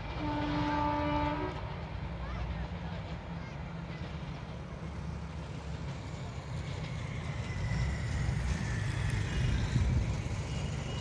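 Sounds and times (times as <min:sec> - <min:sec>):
distant diesel locomotive rumble: 0:00.0 - 0:11.0.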